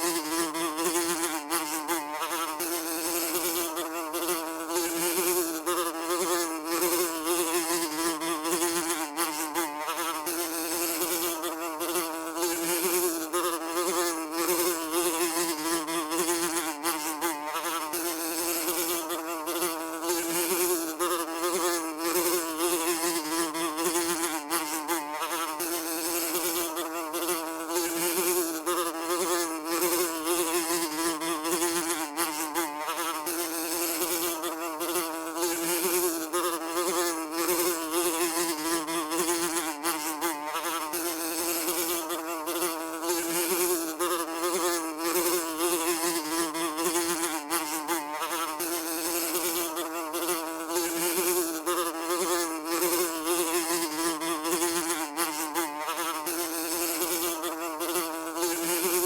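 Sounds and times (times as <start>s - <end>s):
housefly buzzing: 0.0s - 59.0s.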